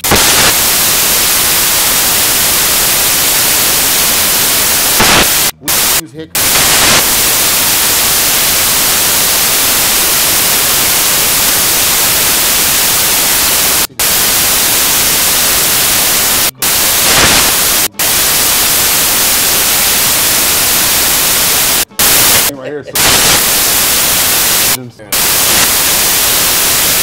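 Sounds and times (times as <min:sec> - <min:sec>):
loud static hiss: 0:00.0 - 0:27.0.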